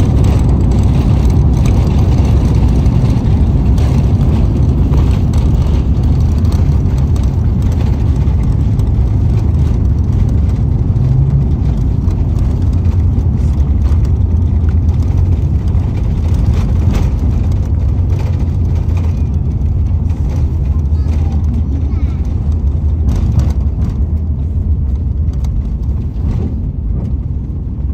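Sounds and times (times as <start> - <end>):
aircraft cabin rumble: 0.0 - 27.9.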